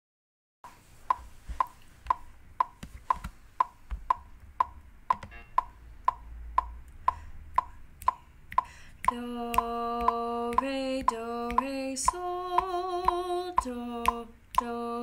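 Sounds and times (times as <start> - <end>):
metronome clicking: 1.1 - 14.8.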